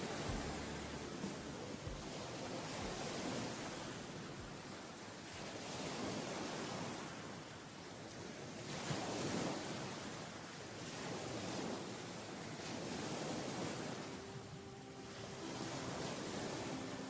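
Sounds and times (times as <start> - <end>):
wind gusting over microphone: 0.0 - 17.0.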